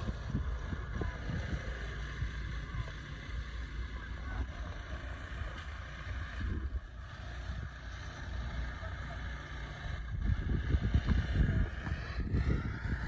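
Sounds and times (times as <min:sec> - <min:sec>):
low rumbling: 0:00.0 - 0:13.0.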